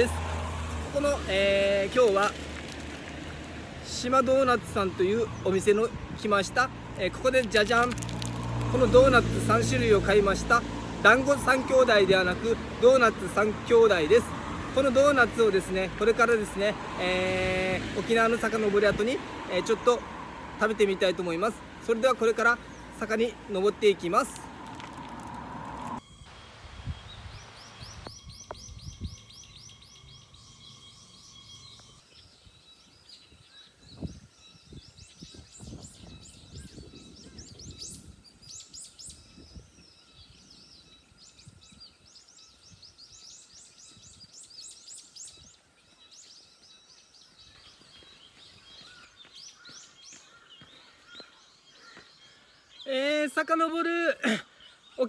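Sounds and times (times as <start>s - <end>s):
birds chirping and trilling: 0.0s - 55.0s.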